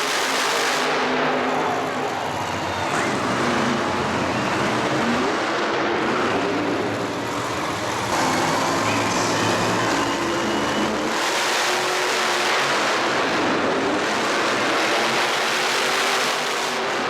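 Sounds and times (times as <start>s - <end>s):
loud engines revving: 0.0s - 17.0s.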